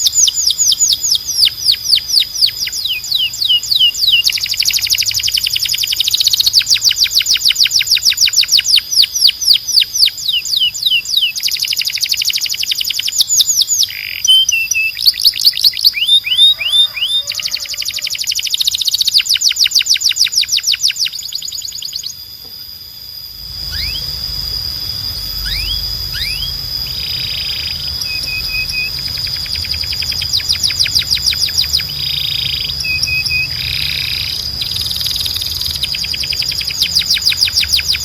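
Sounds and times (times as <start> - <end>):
canary singing: 0.0 - 22.4, 23.1 - 38.0.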